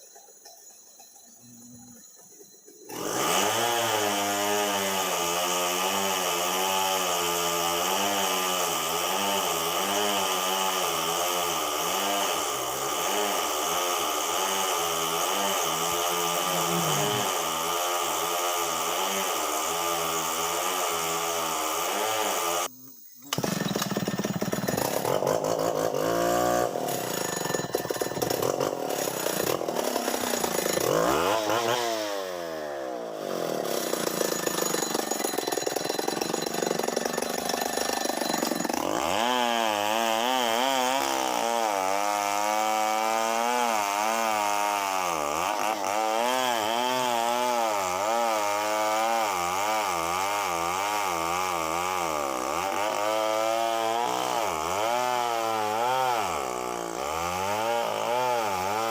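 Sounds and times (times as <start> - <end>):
chainsaw engine revving: 2.9 - 22.7, 23.3 - 58.9.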